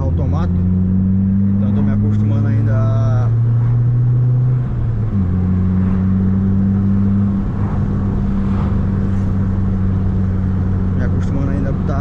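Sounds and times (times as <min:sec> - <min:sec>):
car engine droning through exhaust: 0:00.0 - 0:12.0.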